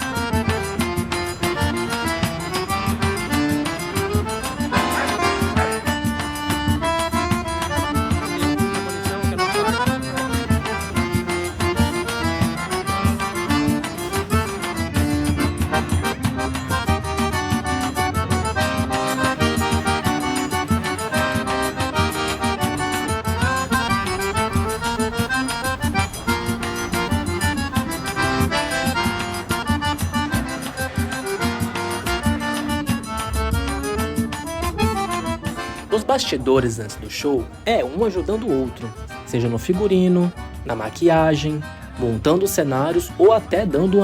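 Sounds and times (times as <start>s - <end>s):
accordion dance music: 0.0s - 44.0s.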